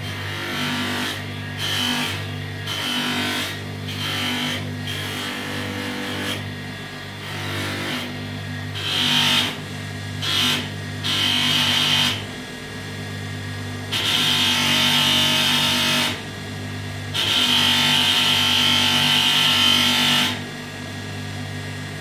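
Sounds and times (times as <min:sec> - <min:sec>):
bench grinder motor hum: 0:00.0 - 0:22.0.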